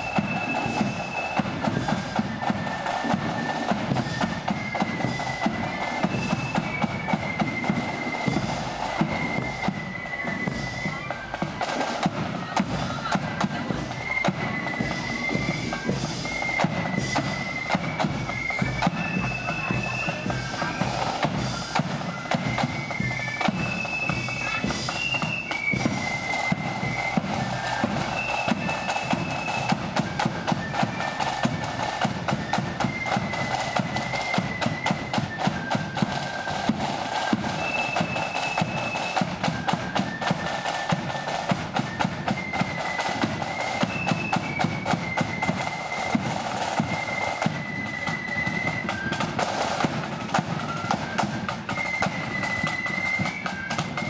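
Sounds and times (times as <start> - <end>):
flutes playing melody: 0.0 - 54.0.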